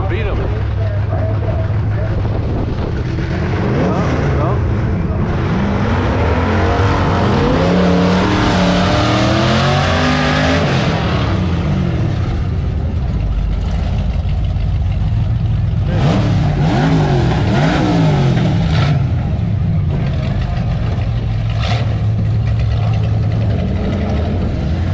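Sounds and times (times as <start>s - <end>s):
engine revving: 0.0s - 24.9s
loud drag car engines rumbling: 0.0s - 24.9s.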